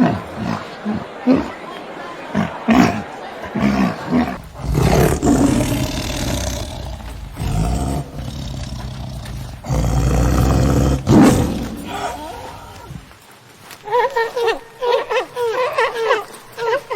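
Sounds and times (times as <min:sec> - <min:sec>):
farm animal calling: 0:00.0 - 0:13.1, 0:13.7 - 0:16.9.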